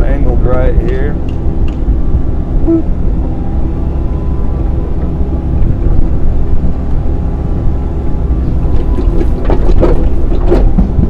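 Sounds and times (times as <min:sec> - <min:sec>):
excavator engine rumbling: 0:00.0 - 0:11.0.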